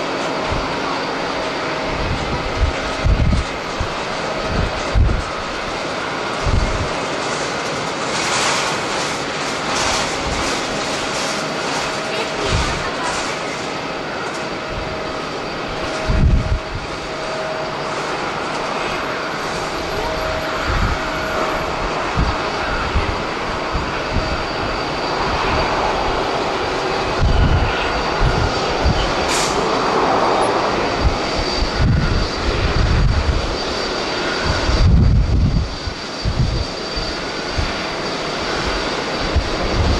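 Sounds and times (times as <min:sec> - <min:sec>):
jet engines running: 0:00.0 - 0:39.9
wind buffeting microphone: 0:00.3 - 0:39.9.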